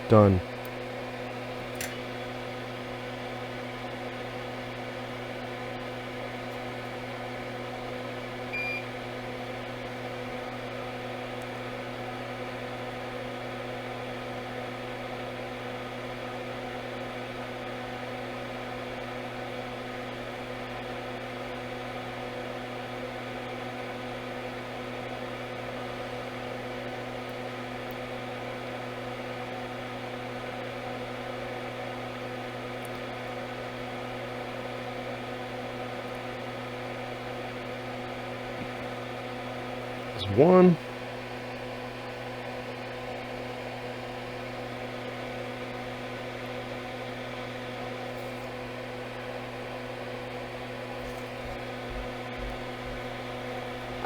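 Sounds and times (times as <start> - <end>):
electrical hum of equipment: 0.0 - 54.0.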